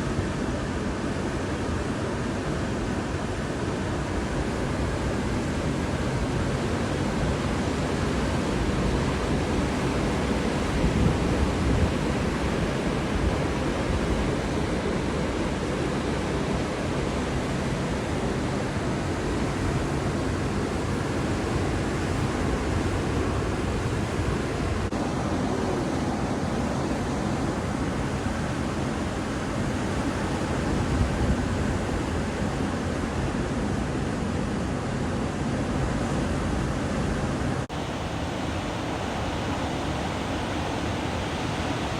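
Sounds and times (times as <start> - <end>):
waves breaking on beach: 0.0 - 41.9.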